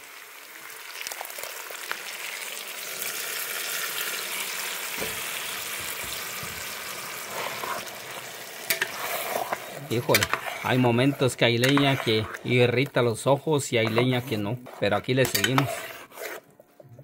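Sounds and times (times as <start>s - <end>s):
sauce sizzling in a pan: 0.0s - 14.3s.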